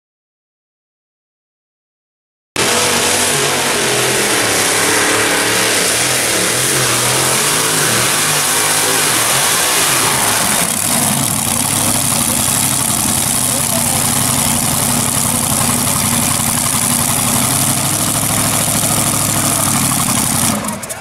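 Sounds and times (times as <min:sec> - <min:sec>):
tractor engine at full throttle: 0:02.6 - 0:21.0.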